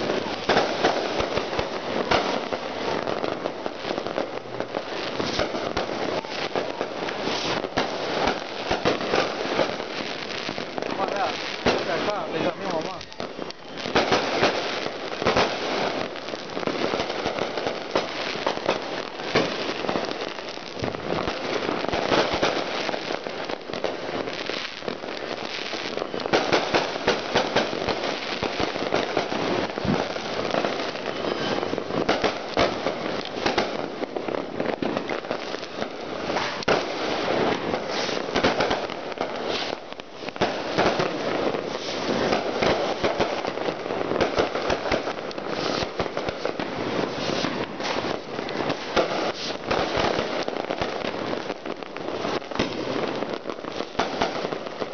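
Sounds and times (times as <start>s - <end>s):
firecrackers crackling: 0.0s - 54.9s.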